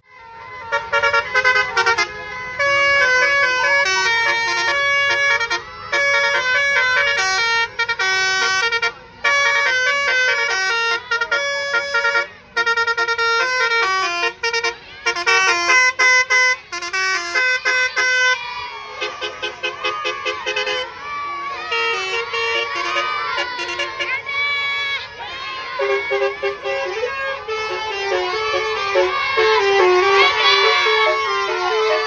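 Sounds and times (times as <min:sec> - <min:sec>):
musical vehicle horn tune: 0:00.4 - 0:21.0, 0:21.6 - 0:25.1, 0:25.7 - 0:32.0.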